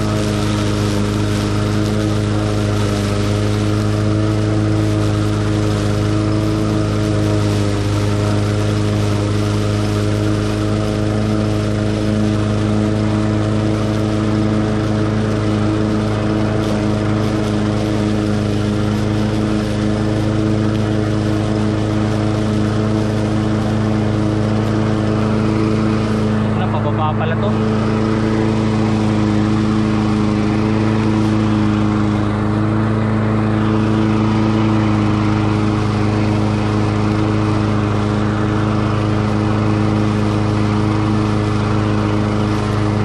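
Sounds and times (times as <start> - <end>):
lawn mower engine running: 0.0 - 43.0.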